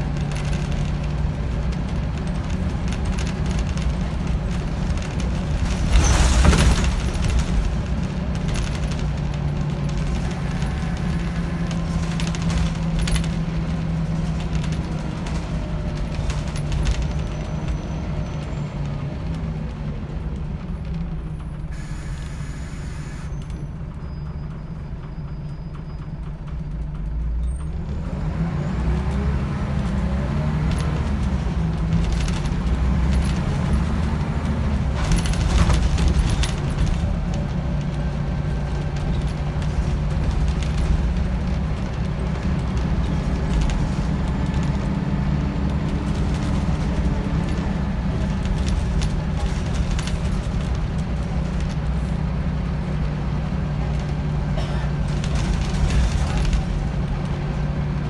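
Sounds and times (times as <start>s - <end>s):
rattles and knocks from bus body: 0.0s - 21.8s, 23.5s - 28.0s, 29.0s - 58.0s
bus diesel engine running: 0.0s - 58.0s.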